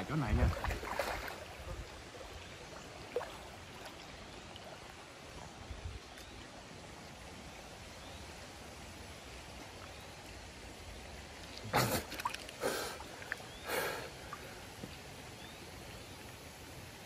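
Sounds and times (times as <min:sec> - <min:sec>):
water splashes: 0:00.0 - 0:07.8, 0:08.4 - 0:17.0
stream water lapping: 0:00.0 - 0:17.0.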